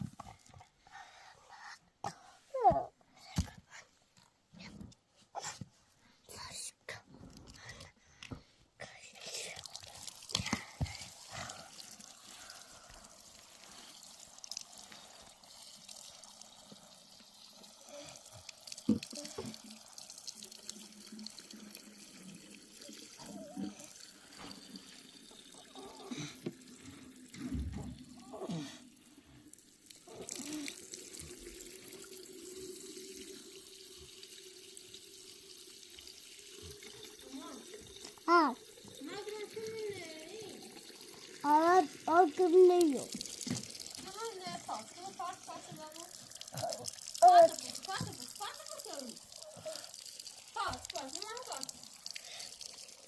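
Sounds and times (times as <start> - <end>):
water running: 8.8 - 53.0.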